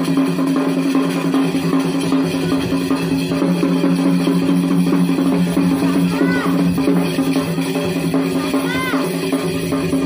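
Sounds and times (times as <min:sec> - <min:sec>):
drum beat: 0:00.0 - 0:10.0.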